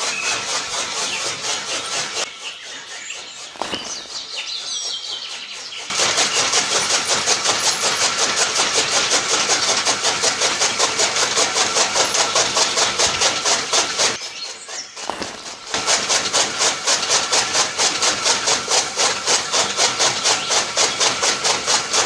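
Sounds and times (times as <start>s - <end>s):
small engine pulsing: 0.0s - 22.0s.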